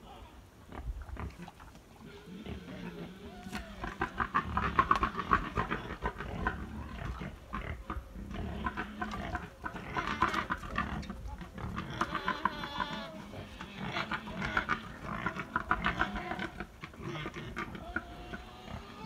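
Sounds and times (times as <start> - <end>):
pigs grunting: 0.0 - 19.0.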